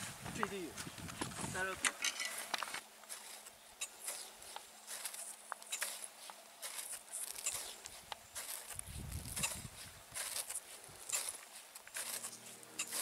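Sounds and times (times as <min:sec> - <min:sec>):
crampons crunching into snow: 0:00.0 - 0:13.0
ski poles planting: 0:00.0 - 0:13.0.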